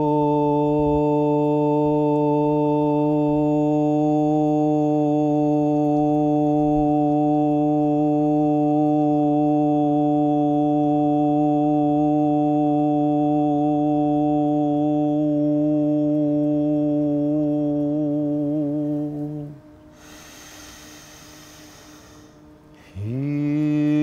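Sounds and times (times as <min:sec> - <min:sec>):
man humming low pitch: 0:00.0 - 0:24.0.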